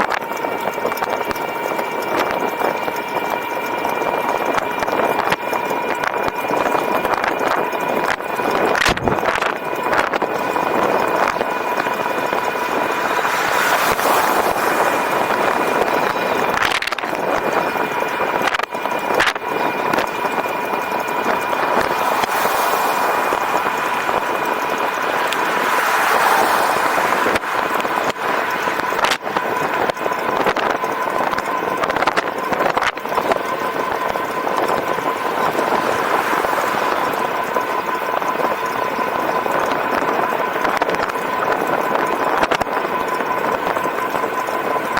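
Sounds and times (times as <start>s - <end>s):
electric motor whine: 0.0s - 44.9s
wind noise: 0.0s - 44.9s.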